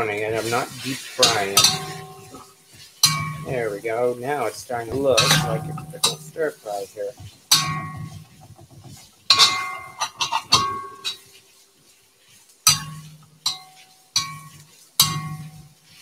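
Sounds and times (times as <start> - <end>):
spatula clanking on wok: 0.0 - 3.9, 4.8 - 11.5, 12.6 - 16.0.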